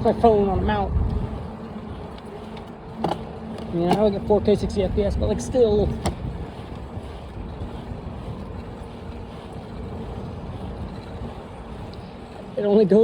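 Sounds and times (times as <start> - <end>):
rolling tyre noise: 0.0 - 13.0
wind on microphone: 0.0 - 13.0.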